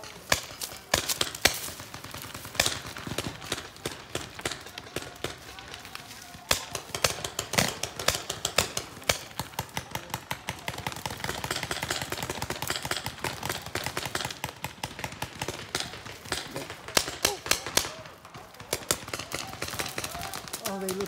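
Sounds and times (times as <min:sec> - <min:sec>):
paintball markers firing: 0:00.0 - 0:21.0.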